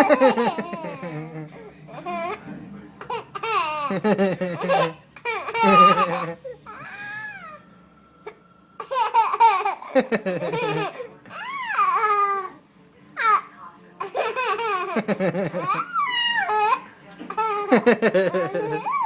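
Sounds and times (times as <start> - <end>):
baby laughing: 0.0 - 2.4, 3.0 - 7.6, 8.2 - 12.5, 14.0 - 19.0.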